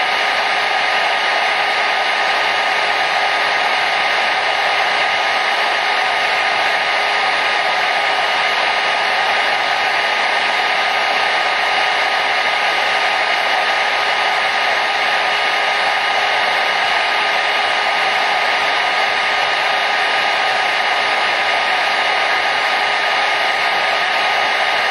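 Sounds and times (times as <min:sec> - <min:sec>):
hair dryer running: 0:00.0 - 0:24.9.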